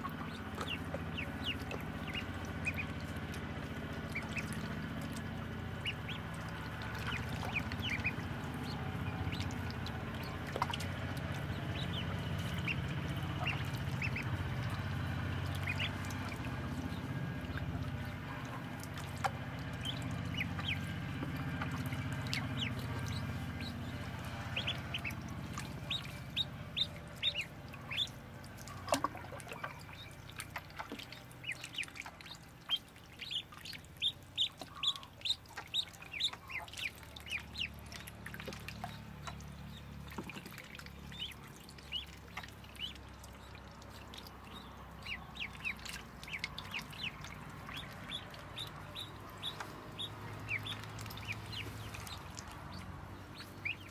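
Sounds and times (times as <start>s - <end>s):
ducklings peeping: 0.0s - 53.9s
low steady rumble: 0.0s - 53.9s.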